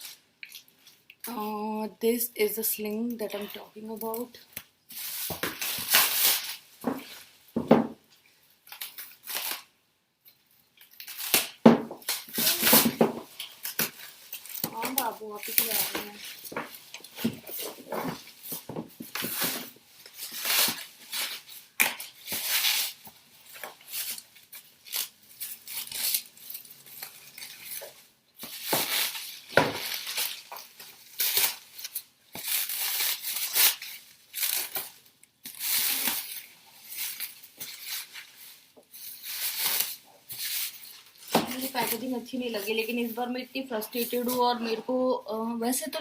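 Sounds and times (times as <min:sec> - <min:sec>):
plastic packaging crinkling: 0:03.2 - 0:07.4, 0:08.5 - 0:09.7, 0:10.6 - 0:44.8.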